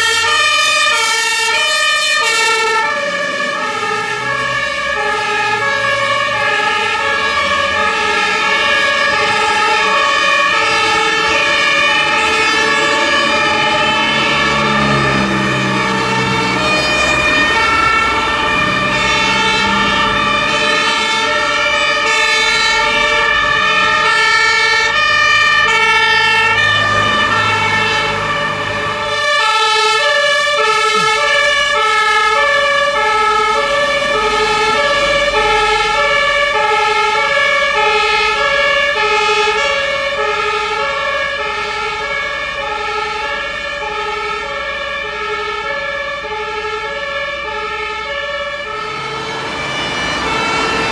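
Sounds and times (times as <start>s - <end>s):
two-tone sirens: 0.0s - 50.9s.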